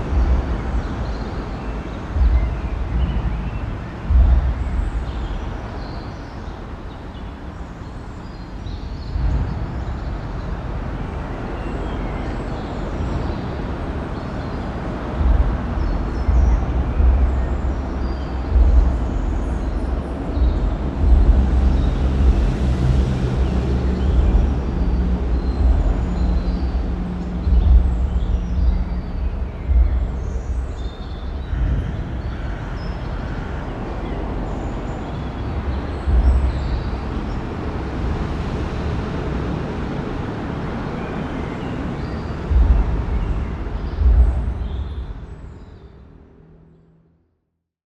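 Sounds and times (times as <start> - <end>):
deep low rumble: 0.0 - 6.8, 8.7 - 41.2, 41.8 - 45.7
low engine hum: 0.0 - 7.3, 9.1 - 45.6
traffic crossing overhead bridge: 0.0 - 46.6.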